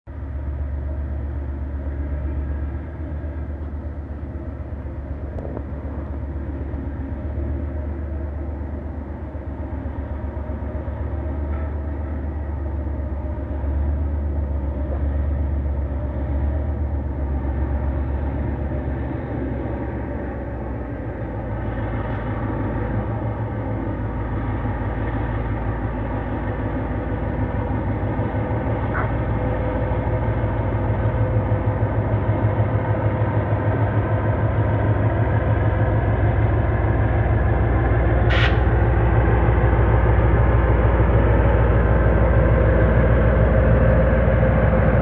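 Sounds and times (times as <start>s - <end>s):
diesel locomotive rumble: 0.1s - 45.0s.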